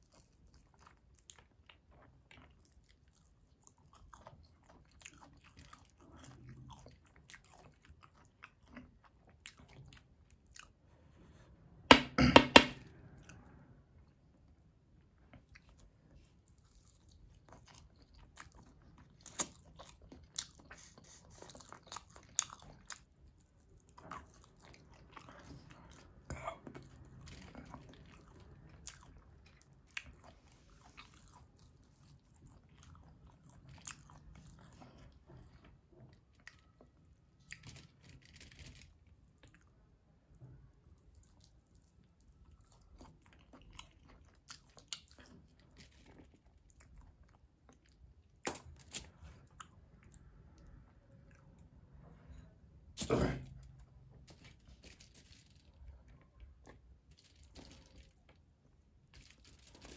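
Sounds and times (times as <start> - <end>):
person chewing food: 0.0 - 10.9, 15.0 - 40.0, 40.9 - 59.9.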